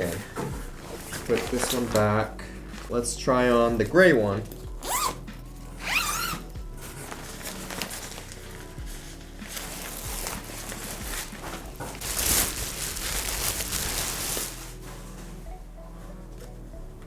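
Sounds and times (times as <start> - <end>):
fabric rustling: 0.0 - 16.9.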